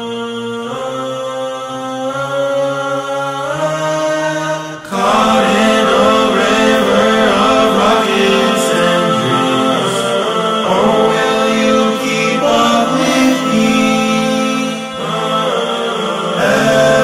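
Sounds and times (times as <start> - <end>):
layered a cappella voices: 0.0 - 17.0.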